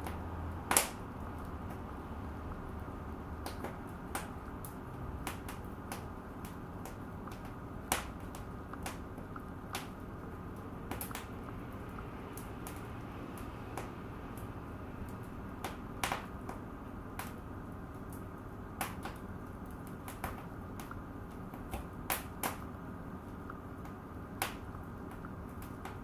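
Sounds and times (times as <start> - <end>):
fire crackling and popping: 0.0 - 26.0
low rush of flame: 0.0 - 26.0.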